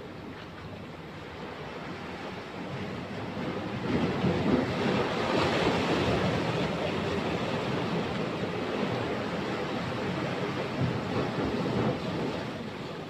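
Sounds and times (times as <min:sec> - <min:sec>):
waves breaking against rocks: 0:00.0 - 0:13.0.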